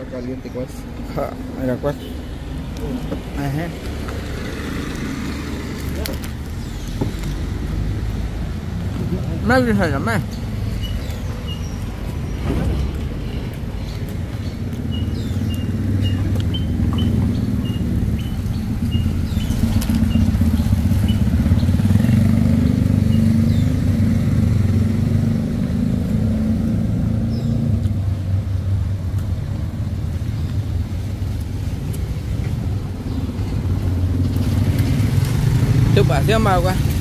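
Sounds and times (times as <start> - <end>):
vehicle engines rumbling: 0.0 - 37.0.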